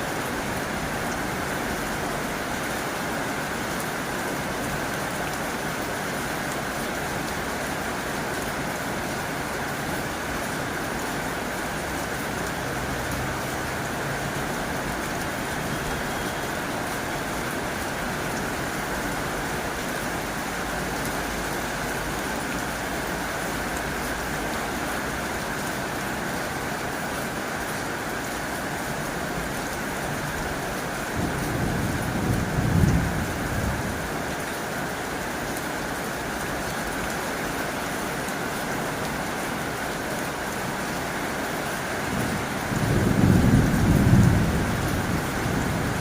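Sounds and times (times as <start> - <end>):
heavy rain on a tin roof: 0.0 - 46.0.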